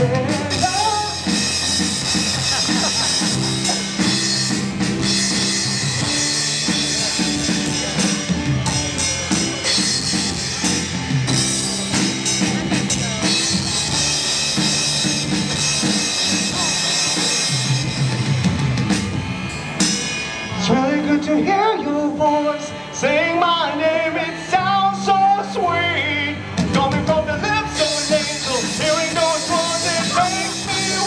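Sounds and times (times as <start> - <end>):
drum kit steady beat: 0.0 - 21.7, 26.5 - 31.0
live rock band: 0.0 - 31.0.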